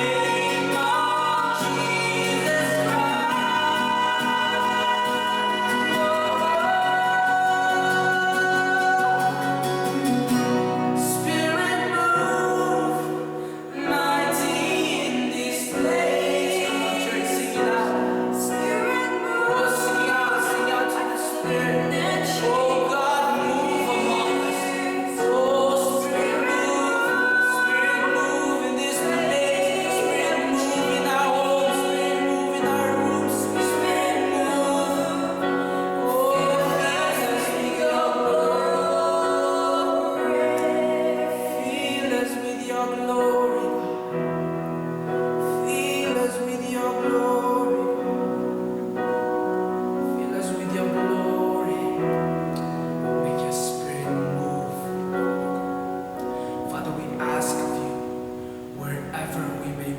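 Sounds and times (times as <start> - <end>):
voices singing slow melody: 0.0 - 59.9.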